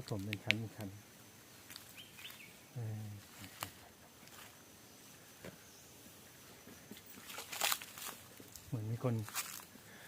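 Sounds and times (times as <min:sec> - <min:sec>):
low hiss: 0:00.0 - 0:10.0.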